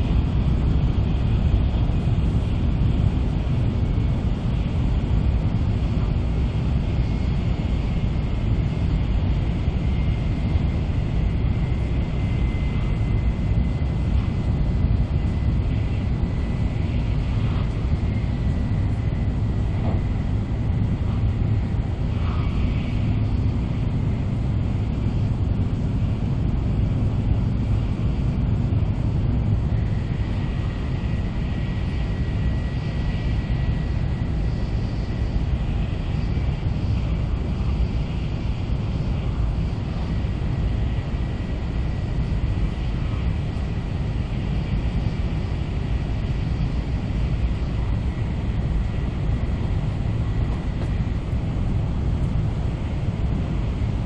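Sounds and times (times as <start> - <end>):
train cabin deep rumble: 0.0 - 54.0.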